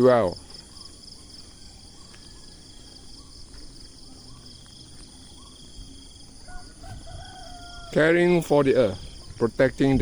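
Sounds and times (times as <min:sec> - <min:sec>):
faint bird chirps: 0:00.0 - 0:09.5
insects trilling: 0:00.0 - 0:10.0.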